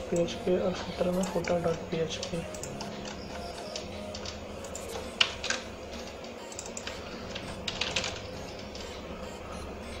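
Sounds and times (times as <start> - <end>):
computer keyboard typing: 0.1 - 10.0.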